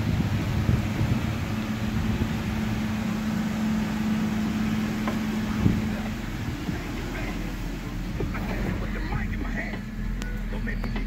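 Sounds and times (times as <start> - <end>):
constant hum: 0.0 - 11.0
truck engine idling: 0.0 - 11.0.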